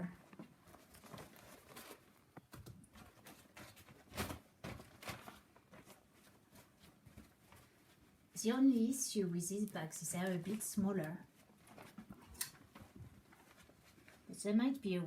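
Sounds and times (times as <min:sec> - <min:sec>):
plastic bin bag crackling: 0:00.0 - 0:08.1, 0:09.9 - 0:14.4.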